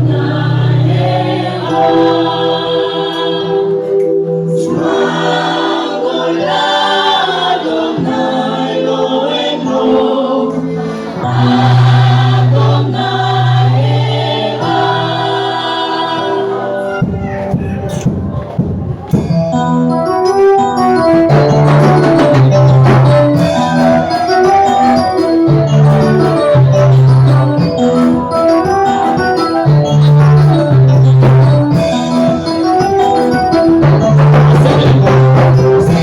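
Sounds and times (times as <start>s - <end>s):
choir singing gospel song: 0.0s - 17.1s, 21.6s - 29.7s, 30.3s - 36.0s.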